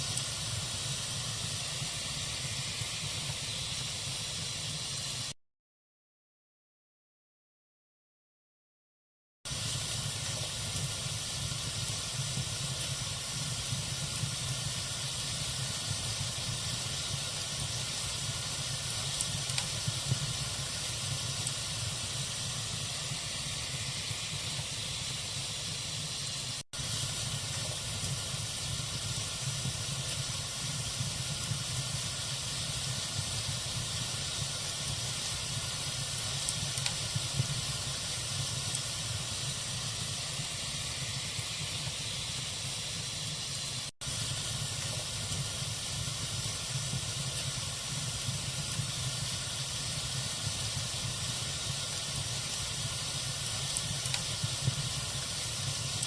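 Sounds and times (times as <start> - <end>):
log fire hissing and crackling: 0.0 - 5.4, 9.5 - 56.0.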